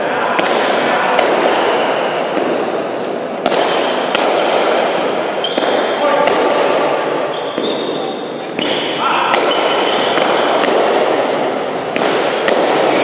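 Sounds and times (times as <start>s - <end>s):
ball smacking in reverberant court: 0.3s - 13.0s.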